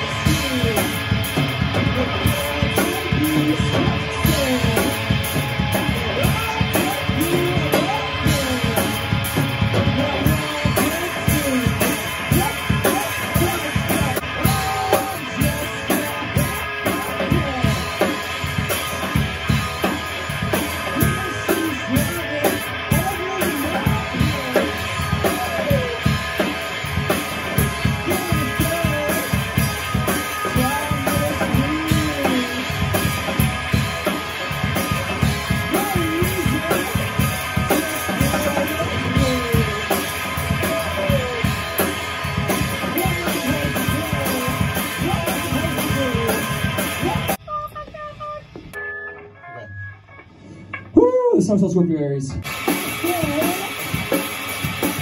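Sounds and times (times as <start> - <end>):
drum kit beat: 0.0 - 48.8, 52.4 - 55.0
electric guitar: 0.0 - 51.4, 52.3 - 55.0.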